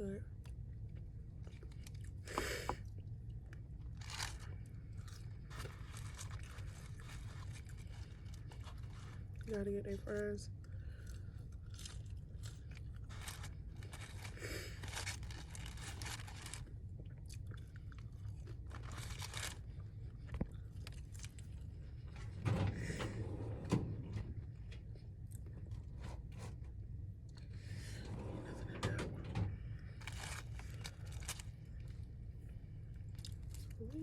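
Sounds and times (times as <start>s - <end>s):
chewing and crunching food: 0.2s - 23.1s, 24.2s - 28.6s, 29.5s - 34.0s.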